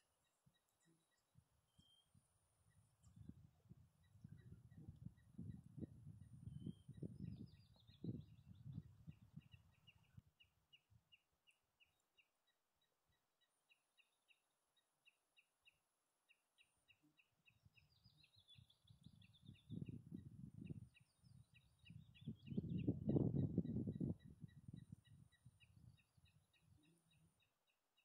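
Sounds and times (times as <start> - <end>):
small bird chirping: 0.2 - 3.4, 4.0 - 12.6, 16.6 - 27.8.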